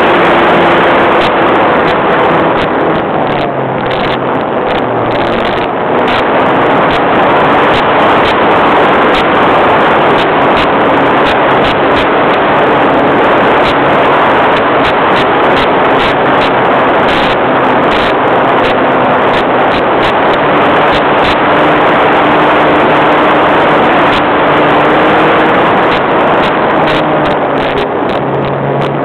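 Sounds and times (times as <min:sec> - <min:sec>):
model airplane engine running: 0:00.0 - 0:29.0
wind rushing over microphone: 0:00.0 - 0:29.0.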